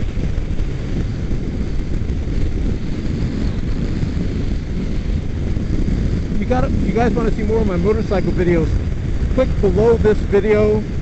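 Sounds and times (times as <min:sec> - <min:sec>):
motorcycle engine at speed: 0:00.0 - 0:11.0
wind on microphone: 0:00.0 - 0:11.0.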